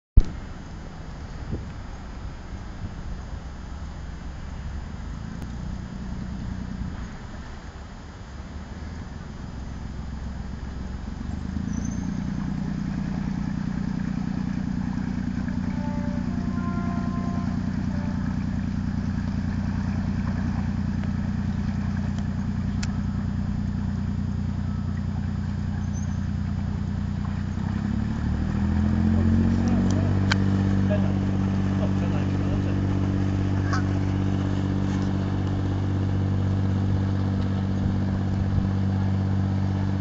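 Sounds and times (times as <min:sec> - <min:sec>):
boat engine running at low revs: 0:00.2 - 0:40.0.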